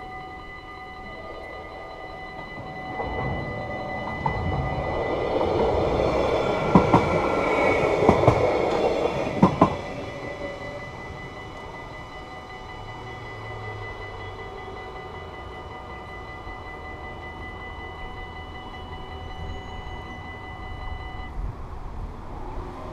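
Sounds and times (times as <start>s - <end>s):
level crossing bells ringing: 0.0s - 21.3s
electric train running past: 0.0s - 22.9s
wheels clicking over rail joints: 0.2s - 20.6s.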